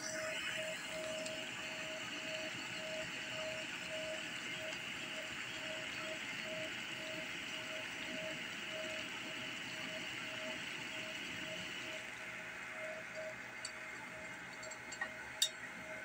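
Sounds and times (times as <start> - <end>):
water boiling in metal pot: 0.0 - 16.0.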